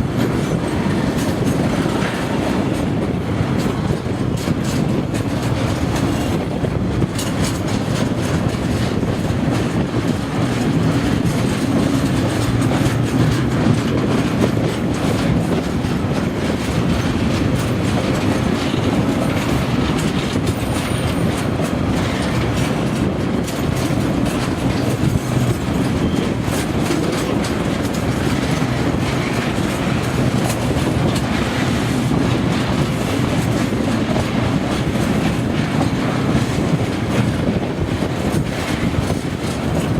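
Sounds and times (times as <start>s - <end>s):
train rumble: 0.0s - 39.9s
train wheels clacking: 0.0s - 39.9s.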